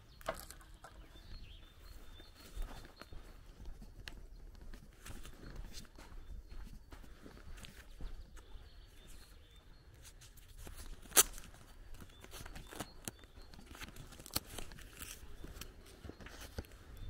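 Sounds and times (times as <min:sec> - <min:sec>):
footsteps through grass: 0:01.2 - 0:17.0.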